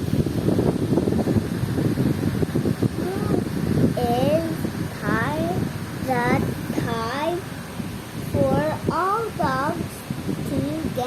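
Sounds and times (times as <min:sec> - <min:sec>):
low rumbling and crackling on microphone: 0:00.0 - 0:11.0.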